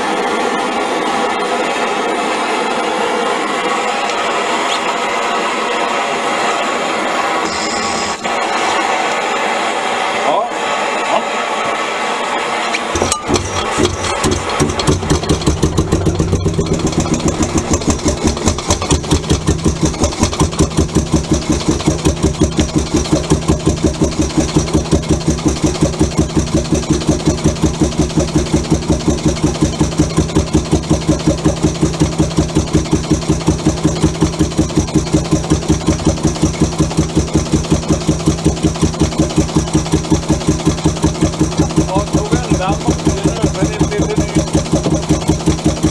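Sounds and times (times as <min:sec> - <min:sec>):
two-stroke engine starting and idling: 0:00.0 - 0:10.2, 0:11.8 - 0:45.9.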